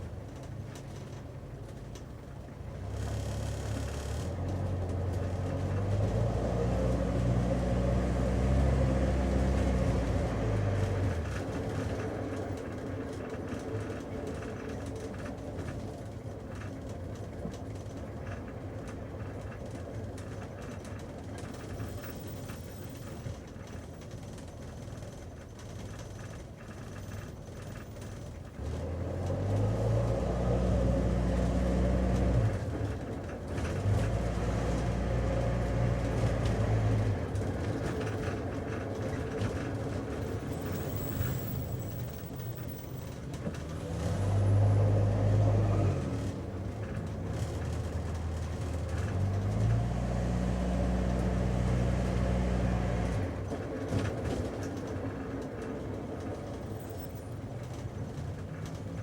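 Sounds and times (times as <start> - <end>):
car engine hum: 0.0 - 59.0
tyre and road noise: 0.0 - 59.0.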